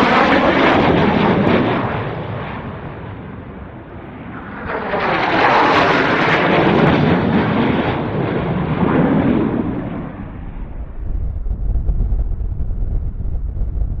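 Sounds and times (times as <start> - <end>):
fighter jet flying low past: 0.0 - 14.0.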